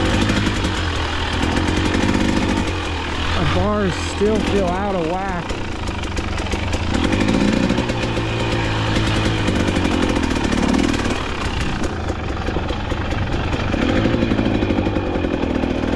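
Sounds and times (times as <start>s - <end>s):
dirt bike engine revving: 0.0s - 15.9s.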